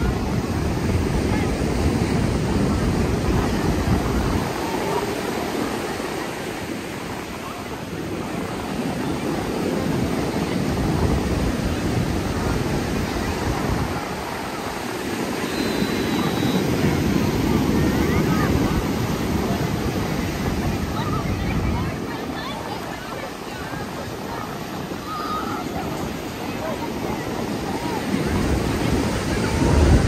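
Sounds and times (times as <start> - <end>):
ocean surf on beach: 0.0 - 30.0
wind rumbling on microphone: 0.0 - 30.0.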